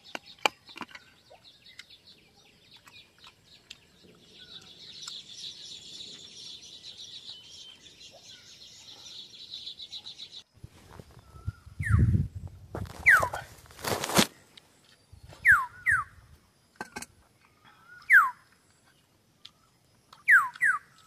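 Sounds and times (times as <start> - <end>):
birds calling: 0.0 - 12.3, 12.9 - 21.0.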